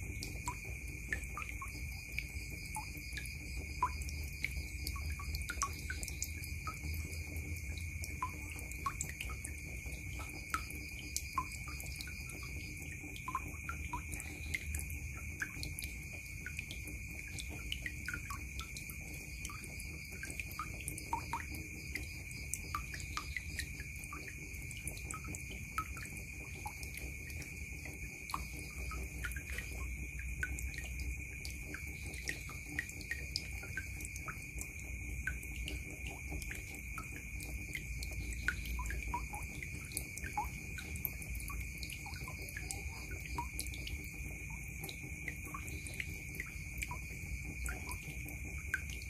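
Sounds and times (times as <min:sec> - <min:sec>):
water dripping into a basin: 0:00.0 - 0:49.0.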